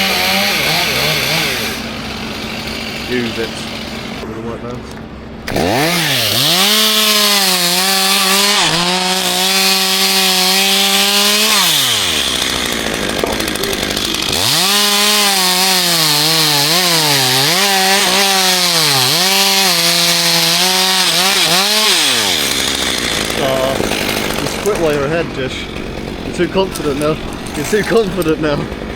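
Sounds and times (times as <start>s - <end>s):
chainsaw cutting wood: 0.0s - 4.3s, 4.9s - 28.9s
chainsaw idling: 0.0s - 28.9s.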